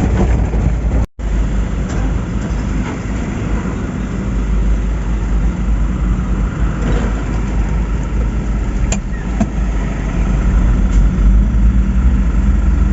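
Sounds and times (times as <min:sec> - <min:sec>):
diesel truck engine running: 0:00.0 - 0:12.9.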